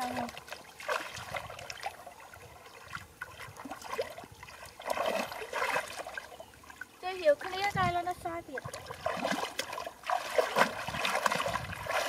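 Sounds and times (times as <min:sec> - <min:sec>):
muddy water splashing: 0:00.0 - 0:12.0.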